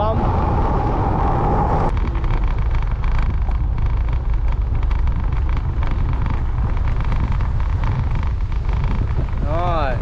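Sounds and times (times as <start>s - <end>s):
motorbike engine and road noise: 0.0s - 10.0s
wind rush: 0.0s - 10.0s.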